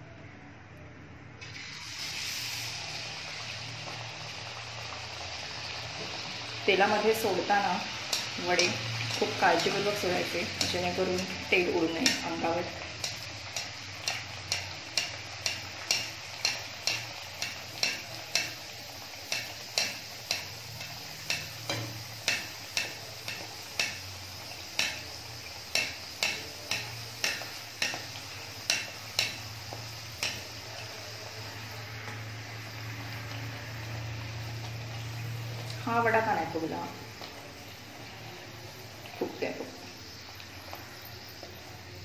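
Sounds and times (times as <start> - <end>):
oil sizzling while deep-frying: 1.4 - 42.0.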